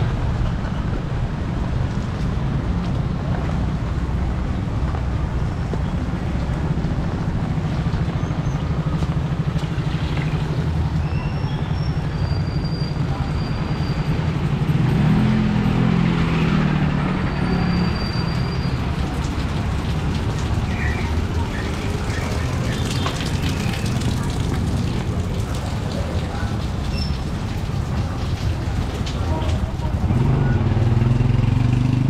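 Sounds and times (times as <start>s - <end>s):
street noise: 0.0s - 32.0s.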